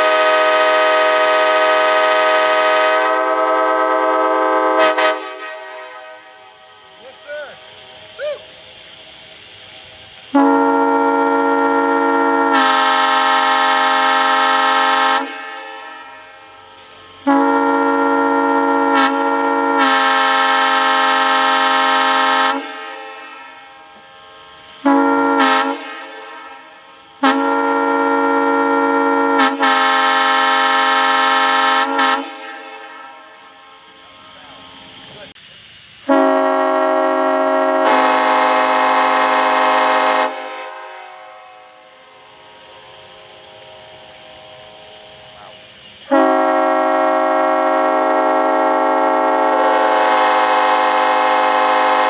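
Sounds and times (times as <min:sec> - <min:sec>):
locomotive air horn blasts: 0:00.0 - 0:06.7, 0:10.3 - 0:24.2, 0:24.8 - 0:33.7, 0:36.0 - 0:52.0.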